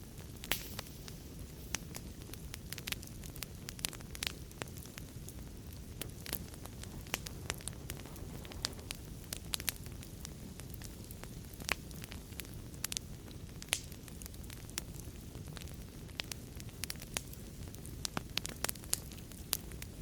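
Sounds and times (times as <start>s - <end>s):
fire crackles and pops: 0.0s - 20.0s
low rumble of flame: 0.0s - 20.0s.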